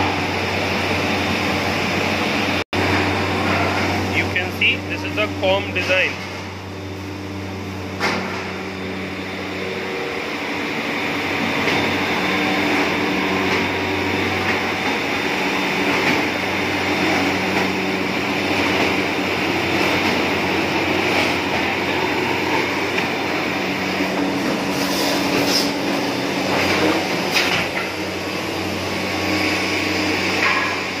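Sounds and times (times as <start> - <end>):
woodworking machinery humming: 0.0 - 31.0.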